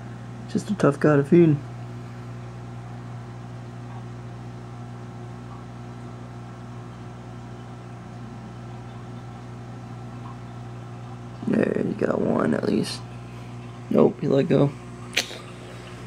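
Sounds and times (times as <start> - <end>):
aquarium pumps humming: 0.0 - 16.0.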